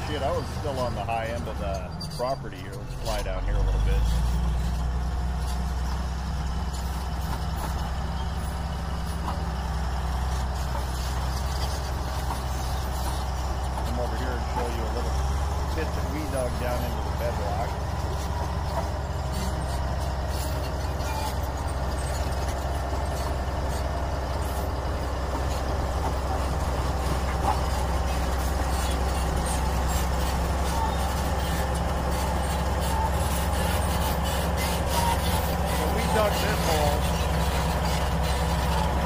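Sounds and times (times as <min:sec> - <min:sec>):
low engine rumble: 0:00.0 - 0:39.0.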